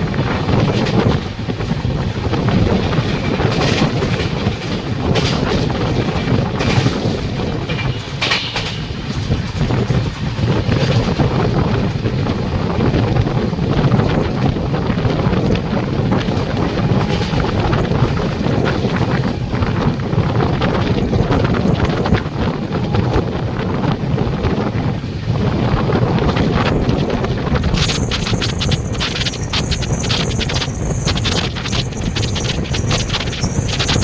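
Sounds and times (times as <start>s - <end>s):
train rumble: 0.0s - 34.0s
wind buffeting microphone: 0.0s - 34.0s.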